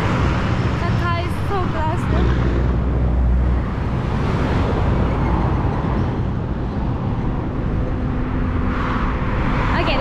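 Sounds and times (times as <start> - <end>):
cars driving past on highway: 0.0 - 10.0.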